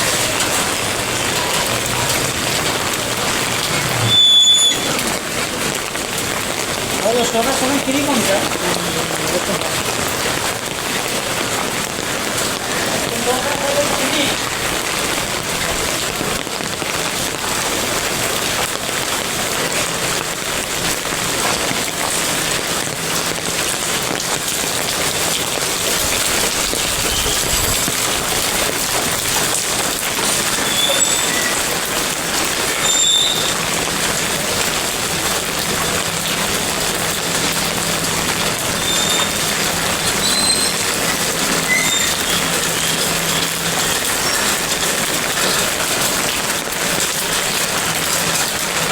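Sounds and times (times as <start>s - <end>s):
heavy rain pattering: 0.0s - 48.9s.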